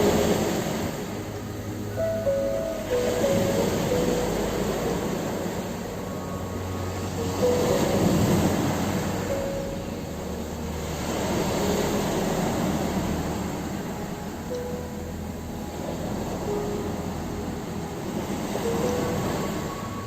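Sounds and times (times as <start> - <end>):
faint sustained music notes: 0.0 - 20.0
ocean waves breaking on shore: 0.0 - 20.0.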